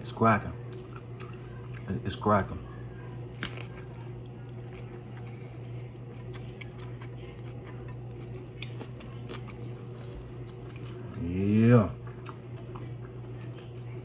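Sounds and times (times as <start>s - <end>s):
steady low hum: 0.0s - 14.0s
chewing crisp taco shell: 0.6s - 2.2s, 3.0s - 14.0s.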